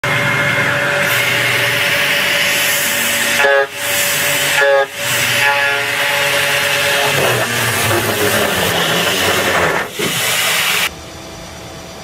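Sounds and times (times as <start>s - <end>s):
machinery hiss and whine: 0.1s - 12.0s.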